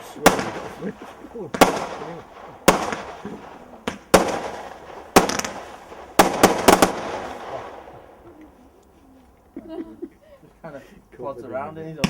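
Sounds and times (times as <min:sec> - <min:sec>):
fireworks exploding: 0:00.0 - 0:10.6.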